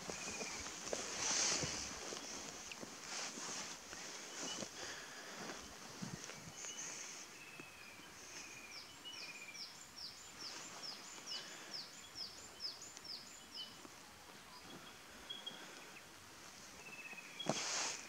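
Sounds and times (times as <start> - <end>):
faint outdoor background noise: 0.0 - 18.0
small bird singing: 0.0 - 18.0.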